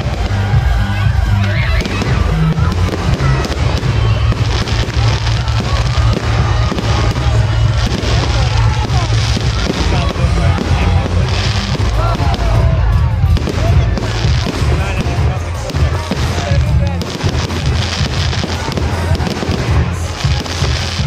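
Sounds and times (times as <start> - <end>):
fireworks bursting and crackling: 0.0 - 21.0
heavy low rumble: 0.0 - 21.0.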